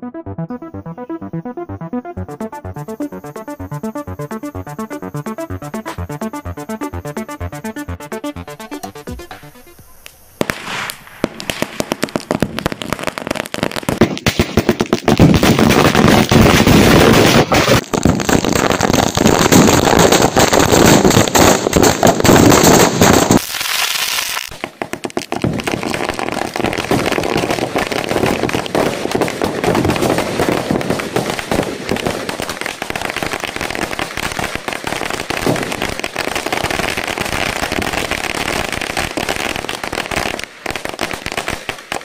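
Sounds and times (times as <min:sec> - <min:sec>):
firecrackers bangs and crackles: 0:05.6 - 0:42.0.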